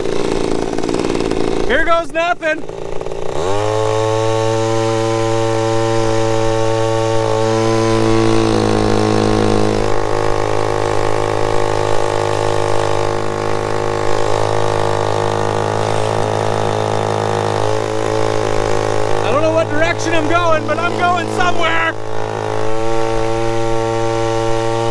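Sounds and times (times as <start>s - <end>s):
water pump engine revving: 0.0s - 24.9s.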